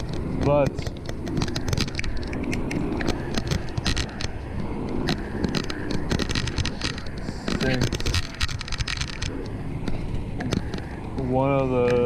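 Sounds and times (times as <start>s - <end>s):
bicycle rattles and clicks: 0.0s - 12.0s
bicycle rolling on pavement: 0.0s - 12.0s.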